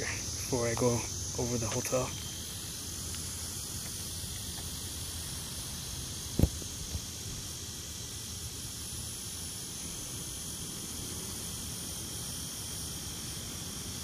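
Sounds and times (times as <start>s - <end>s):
hiss: 0.0s - 14.0s
insect chorus: 0.0s - 14.0s.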